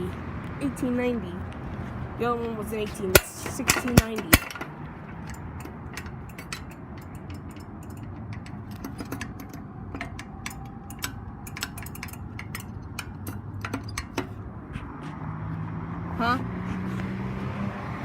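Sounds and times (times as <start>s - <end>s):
crosswalk signal ticking: 0.0s - 17.1s
low traffic hum: 0.0s - 18.0s.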